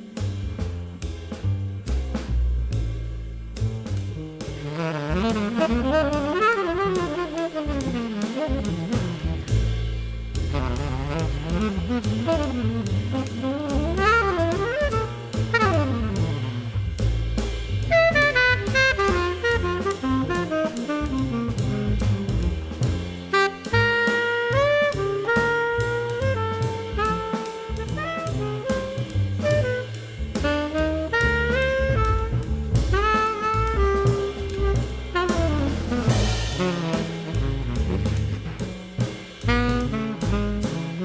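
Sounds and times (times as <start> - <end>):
jazz saxophone with bass and drums: 0.0 - 41.0.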